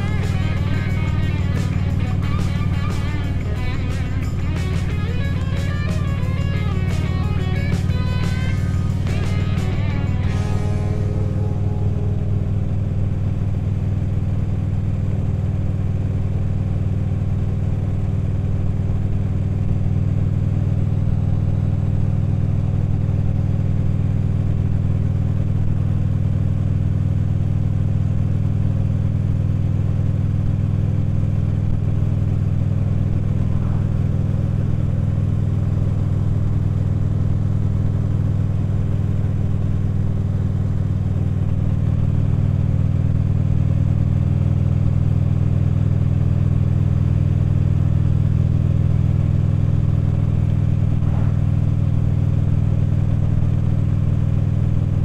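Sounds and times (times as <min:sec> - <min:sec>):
motorcycle engine running steadily: 0:00.0 - 0:55.0.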